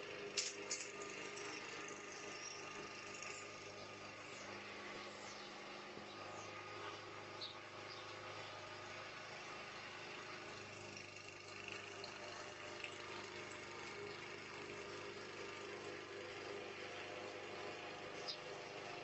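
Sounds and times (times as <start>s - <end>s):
faint mechanical hum: 0.0s - 19.0s.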